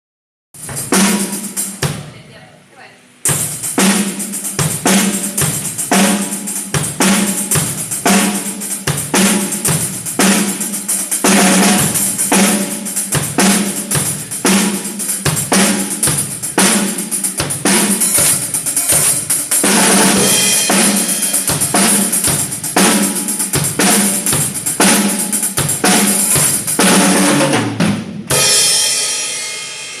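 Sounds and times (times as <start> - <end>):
cymbals: 3.2 - 27.6, 28.3 - 30.0
snare drum: 3.3 - 29.0.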